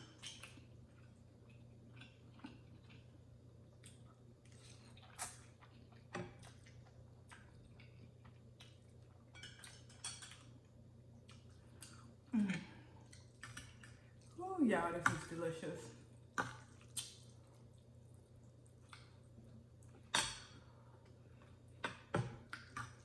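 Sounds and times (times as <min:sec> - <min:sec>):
noodles being chewed: 0:00.0 - 0:14.4, 0:16.1 - 0:23.0.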